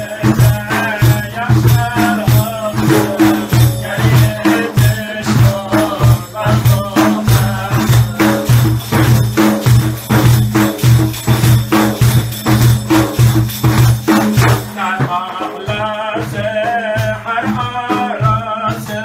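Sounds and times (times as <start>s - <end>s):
frame drums booming: 0.0s - 19.0s.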